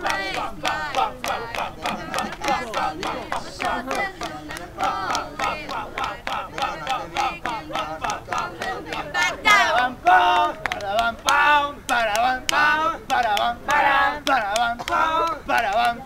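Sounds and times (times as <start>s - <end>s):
group chanting and singing: 0.0s - 16.0s.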